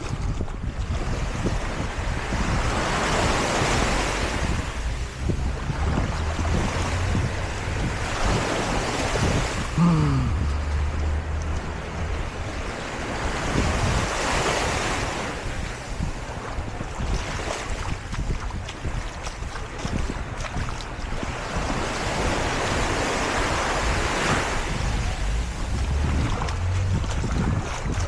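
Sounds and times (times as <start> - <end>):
surf washing on beach: 0.0 - 28.0
wind buffeting microphone: 0.0 - 28.0.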